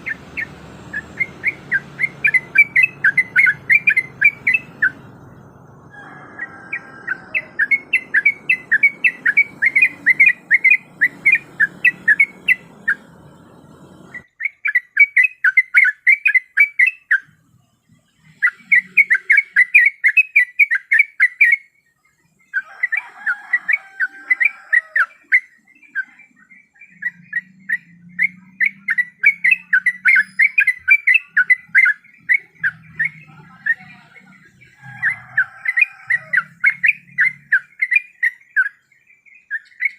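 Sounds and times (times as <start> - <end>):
bird chattering whistled notes: 0.0 - 5.5, 6.3 - 17.4, 18.3 - 21.8, 23.4 - 39.9.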